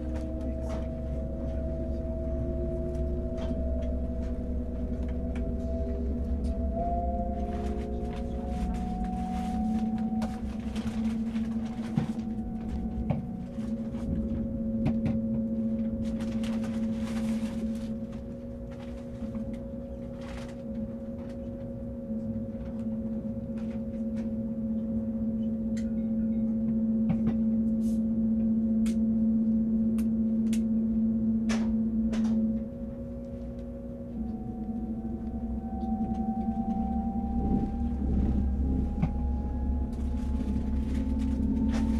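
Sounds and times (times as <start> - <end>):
low rumble: 0.0 - 41.9
train electric hum: 0.0 - 41.9.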